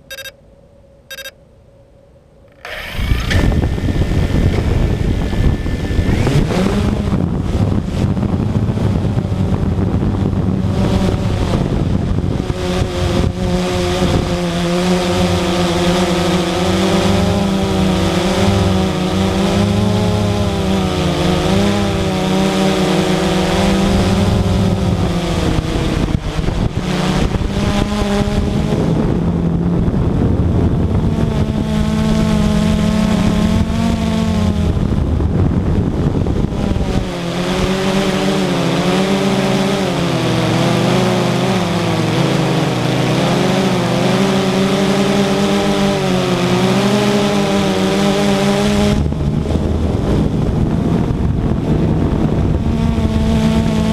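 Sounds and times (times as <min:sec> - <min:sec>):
model aircraft engine in flight: 0:00.0 - 0:00.3, 0:01.1 - 0:01.3, 0:02.5 - 0:53.9
wind-like noise: 0:00.0 - 0:53.9.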